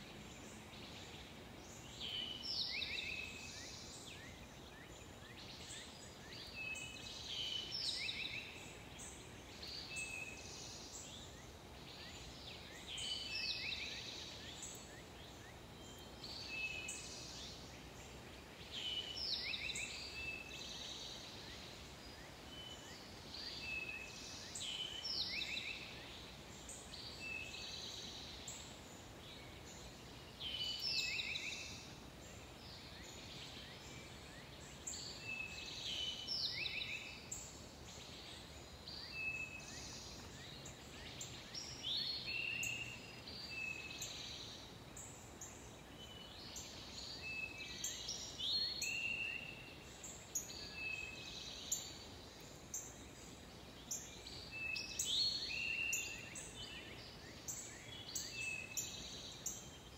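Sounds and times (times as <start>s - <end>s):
faint outdoor hiss: 0.0s - 59.9s
songbirds singing: 0.0s - 59.9s.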